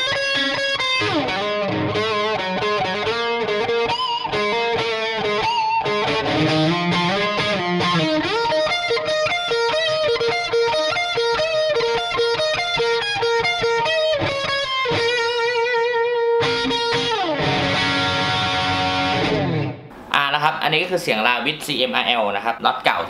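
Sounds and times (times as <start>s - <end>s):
distorted electric guitar lead: 0.0s - 20.1s.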